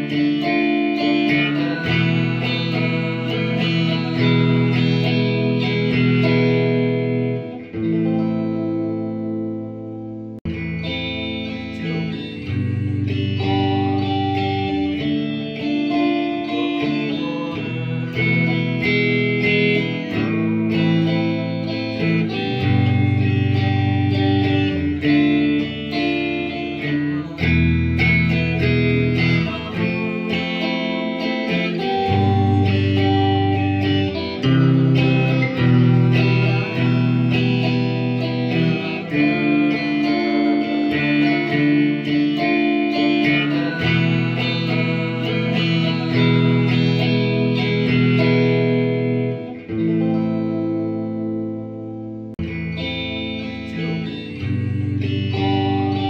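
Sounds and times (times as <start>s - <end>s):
guitar background music: 0.0s - 56.0s.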